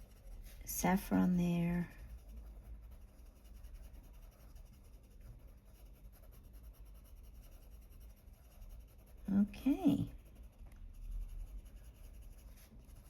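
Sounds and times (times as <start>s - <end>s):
coloured pencil scratching paper: 0.0s - 13.0s.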